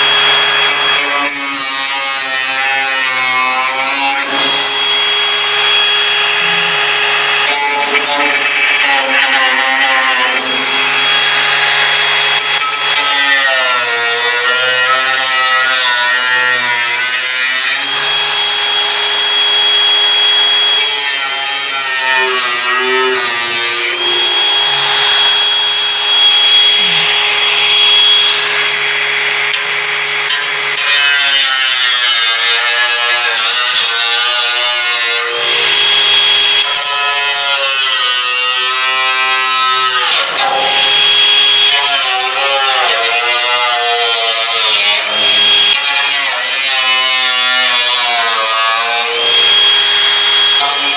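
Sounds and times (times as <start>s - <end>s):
rotary tool cutting metal: 0.0s - 50.9s.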